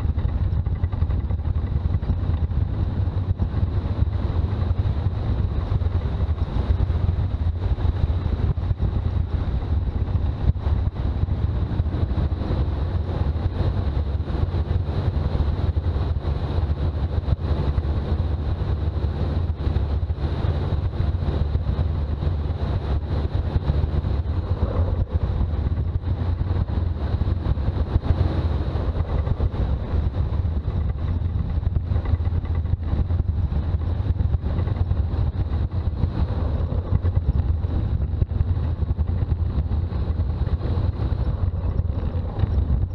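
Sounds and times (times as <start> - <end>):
diesel engine running: 0.0 - 42.9
road noise: 0.0 - 42.9.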